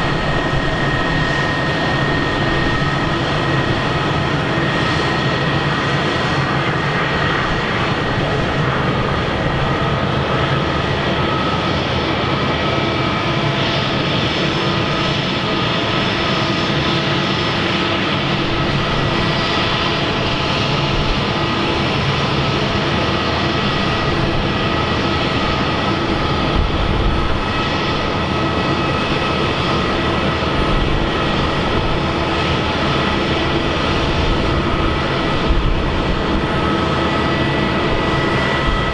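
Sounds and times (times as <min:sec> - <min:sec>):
jet engines roaring with high whine: 0:00.0 - 0:38.9.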